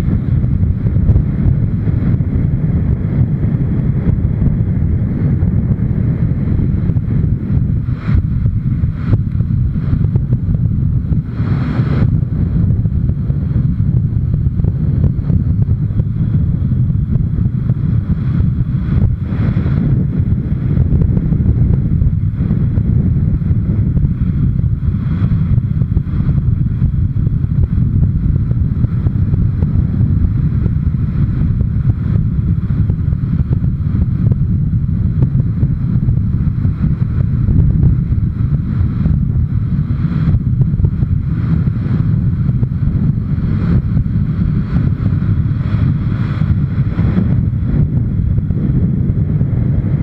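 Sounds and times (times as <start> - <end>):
wind rushing over microphone: 0.0 - 50.0.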